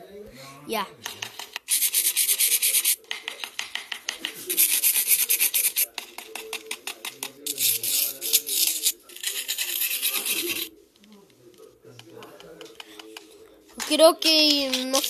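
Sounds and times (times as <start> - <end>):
rapid scratching and scraping: 1.0 - 15.0.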